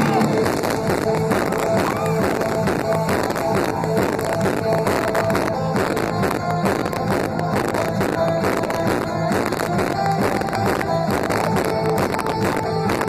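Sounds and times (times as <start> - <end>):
trance dance music: 0.0 - 13.0.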